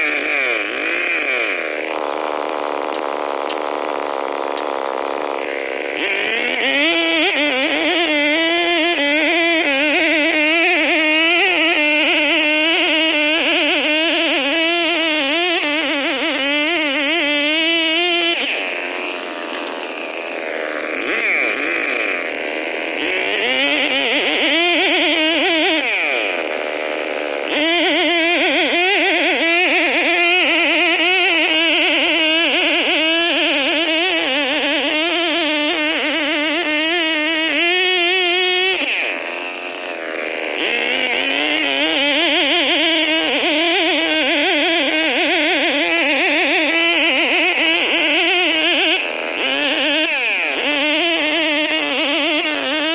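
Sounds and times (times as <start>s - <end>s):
chainsaw running hard: 0.0s - 52.9s.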